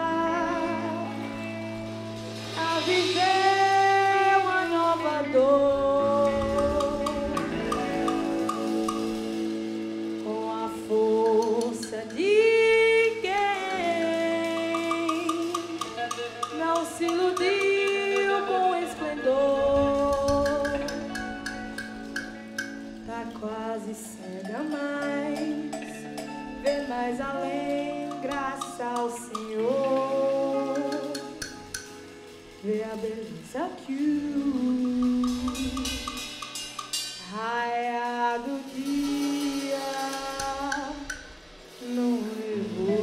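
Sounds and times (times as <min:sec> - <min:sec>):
woman singing slow song: 0:00.0 - 0:08.8, 0:10.1 - 0:22.2, 0:22.9 - 0:36.5, 0:37.1 - 0:43.0
bass guitar: 0:00.0 - 0:43.0
drum kit: 0:00.0 - 0:43.0
electric guitar: 0:00.0 - 0:43.0.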